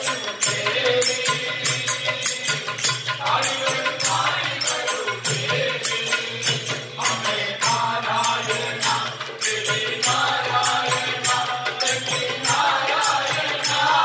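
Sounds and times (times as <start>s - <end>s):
hand cymbals striking: 0.0s - 14.0s
men chanting in unison: 0.0s - 14.0s.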